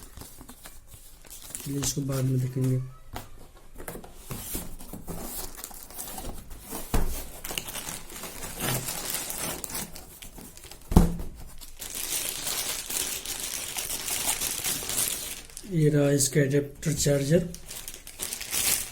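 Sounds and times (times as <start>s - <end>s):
plastic and paper crinkling: 0.0s - 18.9s.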